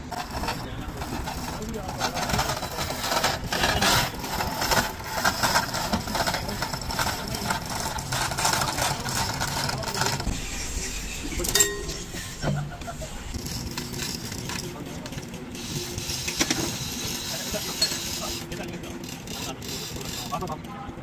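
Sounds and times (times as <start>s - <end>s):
hoist chains rattling: 0.0s - 10.3s, 11.3s - 20.6s
clanking heavy steel parts: 0.0s - 20.7s.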